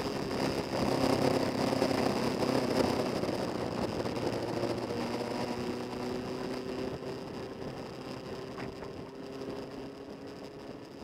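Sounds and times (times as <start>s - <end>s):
motorcycle engine cruising: 0.0s - 11.0s
wind and road rush: 0.0s - 11.0s.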